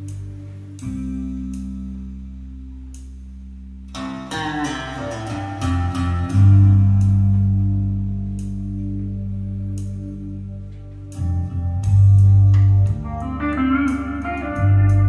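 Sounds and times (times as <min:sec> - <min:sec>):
guitar: 0:00.0 - 0:15.0
heavy bass note: 0:00.0 - 0:15.0.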